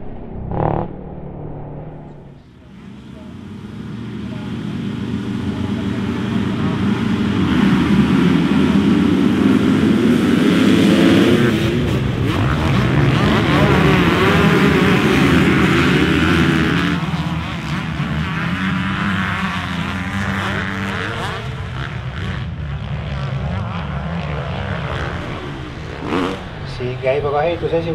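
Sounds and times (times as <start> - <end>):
motocross bikes revving: 2.1 - 27.9.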